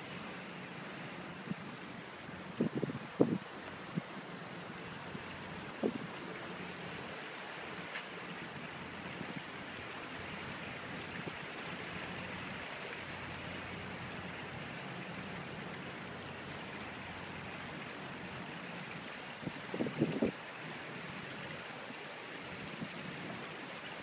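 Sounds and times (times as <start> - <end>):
water rushing along a hull: 0.0 - 24.0.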